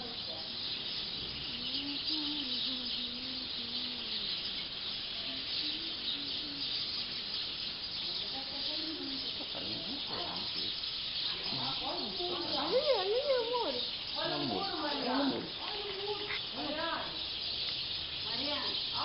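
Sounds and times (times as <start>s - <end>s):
flock of birds chattering: 0.0s - 19.0s.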